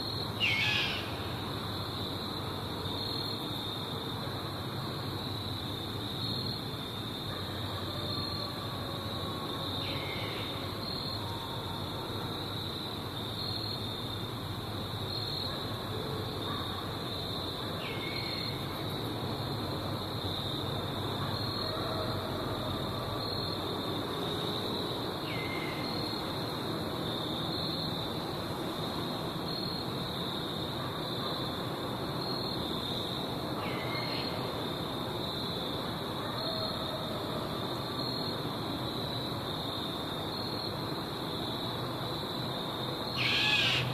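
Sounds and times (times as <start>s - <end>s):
night insects chirring: 0.0s - 43.9s.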